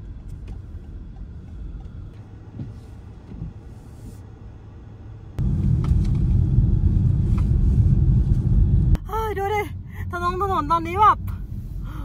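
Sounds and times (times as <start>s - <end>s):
road noise inside car: 0.0s - 12.0s.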